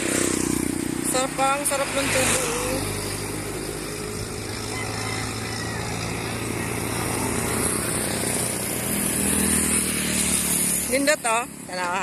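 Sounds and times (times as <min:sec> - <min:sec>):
motorcycle engine approaching: 0:00.0 - 0:12.0.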